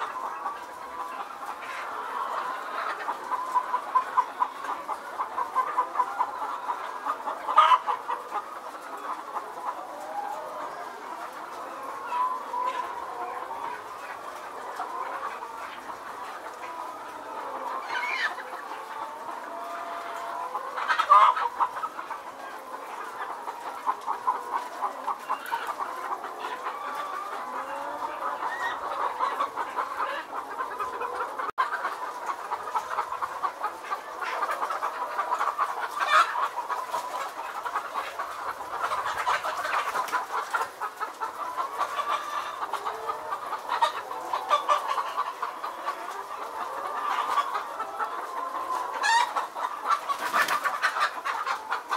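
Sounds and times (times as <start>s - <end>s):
chicken squawks: 0.0s - 51.9s
chickens clucking: 0.0s - 51.9s.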